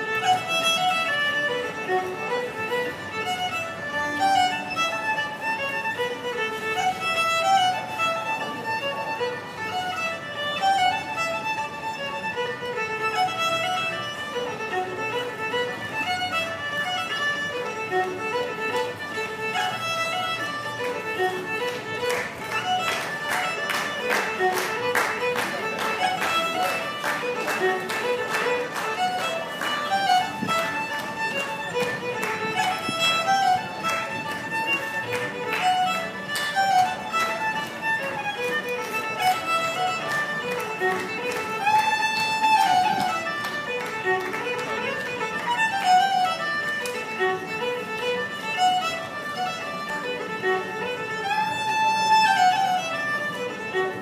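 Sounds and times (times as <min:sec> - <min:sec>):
solo fiddle tune: 0:00.0 - 0:54.0.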